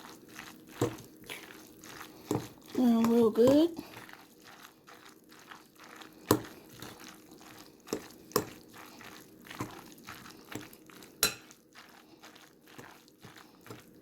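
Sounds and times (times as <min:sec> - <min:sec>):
wet squelching of stirred pasta: 0:00.0 - 0:14.0.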